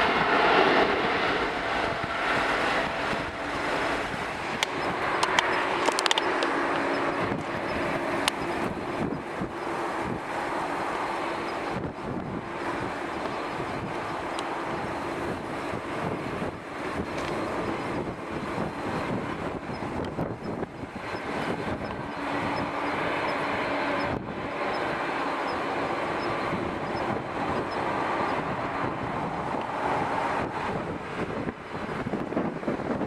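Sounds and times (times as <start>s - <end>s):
jet engine rushing: 0.0s - 33.0s
wind buffeting microphone: 0.0s - 33.0s.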